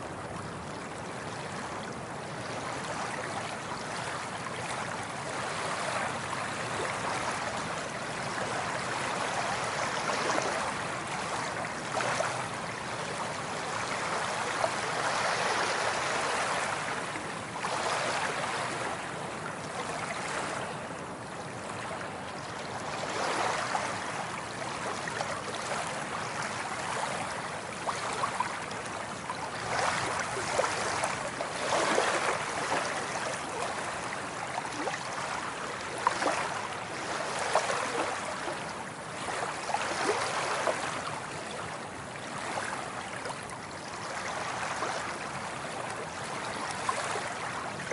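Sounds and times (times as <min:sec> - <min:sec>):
sea waves washing onto shore: 0:02.4 - 0:47.9.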